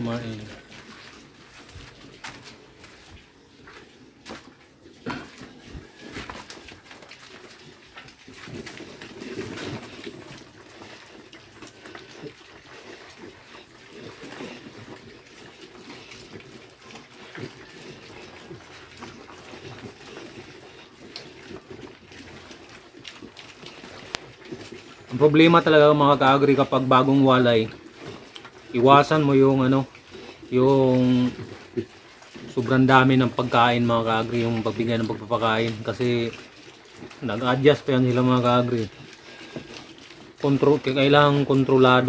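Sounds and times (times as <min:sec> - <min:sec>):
piglets chewing feed: 0:00.0 - 0:42.0
piglets snuffling: 0:00.0 - 0:42.0.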